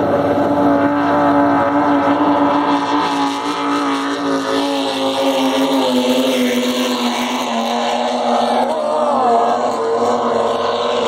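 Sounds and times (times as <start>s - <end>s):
powerboat engines droning: 0.0s - 11.0s.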